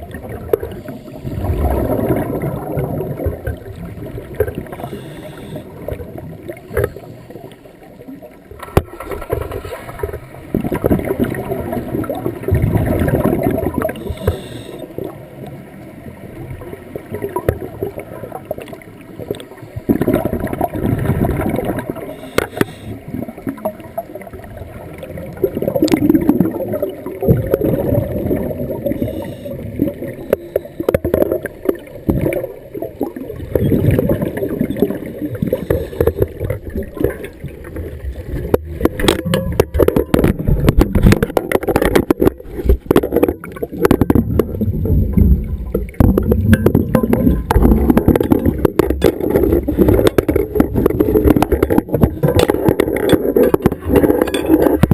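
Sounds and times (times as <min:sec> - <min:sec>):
underwater bubbles gurgling: 0:00.0 - 0:54.9.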